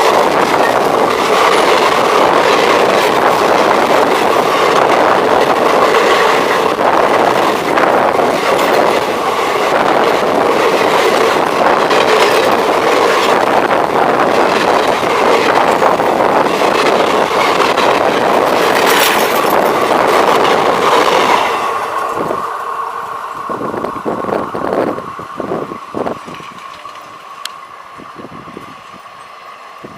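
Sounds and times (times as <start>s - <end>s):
wheels clattering over rail joints: 0.0s - 22.7s, 26.0s - 27.6s
train rushing past: 0.0s - 29.9s.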